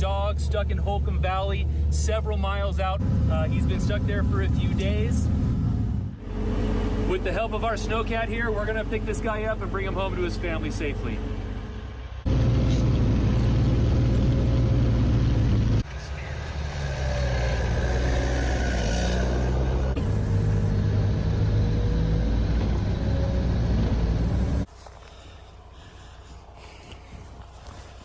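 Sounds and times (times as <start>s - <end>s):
quiet outdoor sound: 0.0s - 28.0s
snowcat engine droning: 0.0s - 28.0s.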